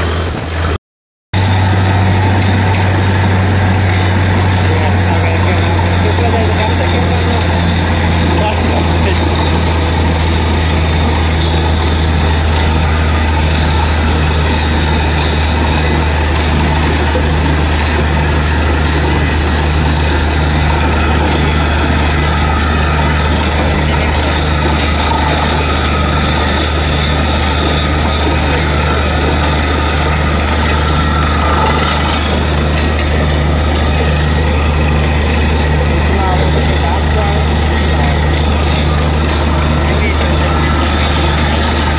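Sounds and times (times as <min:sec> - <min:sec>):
drilling rig engine drone: 0:00.0 - 0:00.8, 0:01.4 - 0:41.9.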